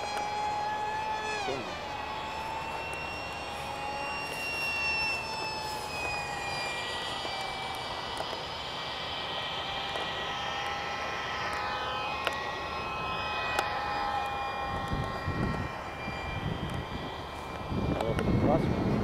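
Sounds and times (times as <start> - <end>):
model jet fan whining: 0.0 - 19.0.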